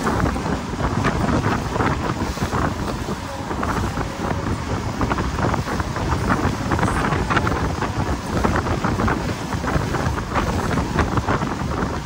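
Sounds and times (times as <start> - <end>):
motorboat rumble through water: 0.0 - 12.0
wind buffeting microphone: 0.0 - 12.0.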